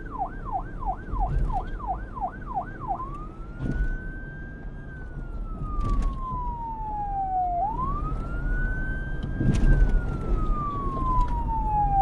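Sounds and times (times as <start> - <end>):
police siren: 0.0 - 12.0.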